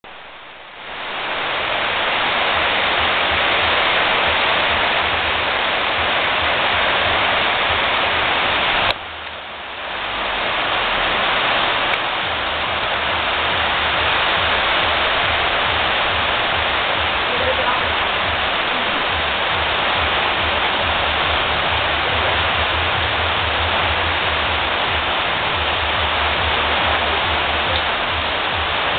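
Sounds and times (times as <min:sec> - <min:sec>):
heavy rain on foliage: 0:00.0 - 0:28.9.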